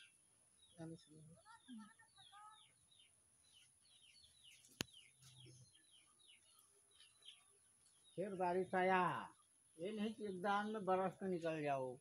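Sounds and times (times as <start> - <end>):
faint bird chirps: 0.0 - 10.5.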